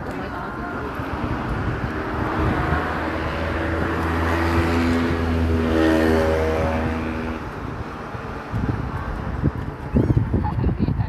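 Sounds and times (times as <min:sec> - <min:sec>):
motor vehicle passing: 0:00.0 - 0:10.5.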